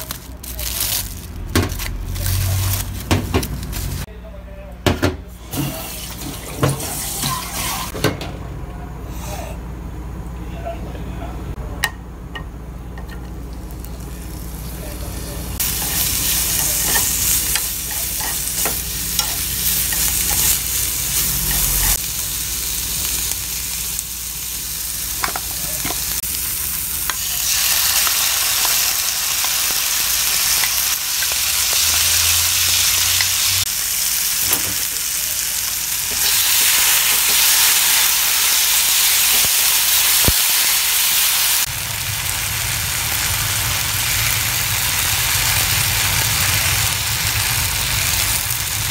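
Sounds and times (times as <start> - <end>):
vegetables sizzling in a frying pan: 0.0 - 4.1, 5.4 - 8.0, 13.2 - 48.9.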